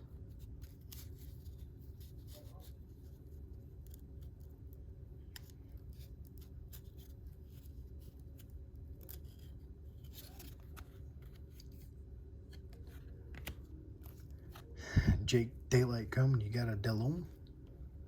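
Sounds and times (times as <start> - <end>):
low steady room hum: 0.0 - 18.0
cards being flipped through: 0.2 - 14.8.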